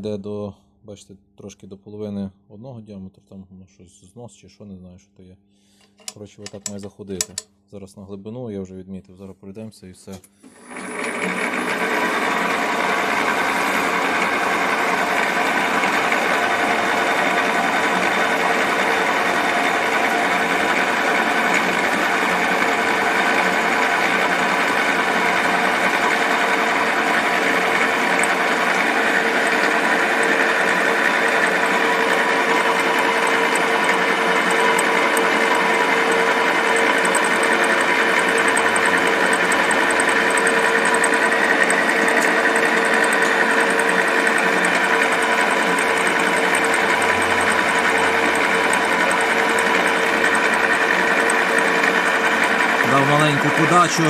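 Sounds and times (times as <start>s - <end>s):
milling machine whining: 10.4s - 54.0s.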